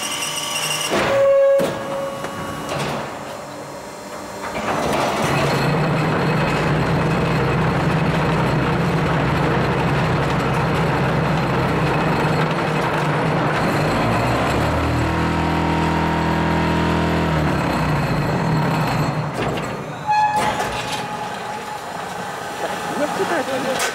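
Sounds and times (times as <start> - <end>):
machine mechanical hum: 0.0 - 23.9.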